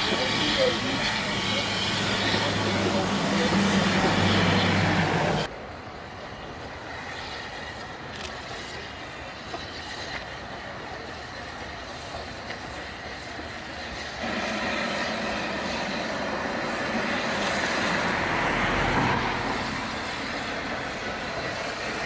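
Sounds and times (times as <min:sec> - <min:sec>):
railway station background: 0:00.0 - 0:22.0
train rumbling along track: 0:00.0 - 0:22.0.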